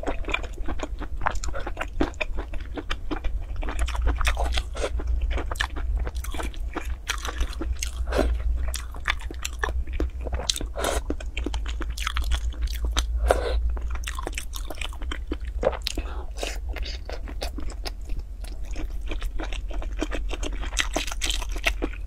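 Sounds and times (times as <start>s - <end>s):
steady low hum: 0.0s - 22.0s
wet chewing: 0.0s - 22.0s.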